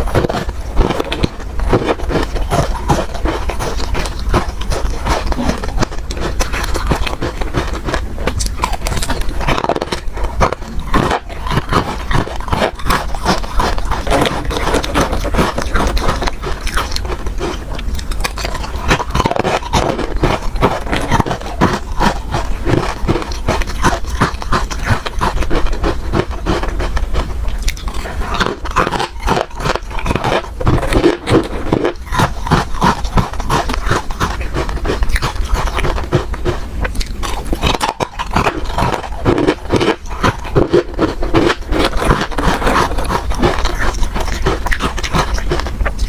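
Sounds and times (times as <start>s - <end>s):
ice crunching being chewed: 0.0s - 46.0s.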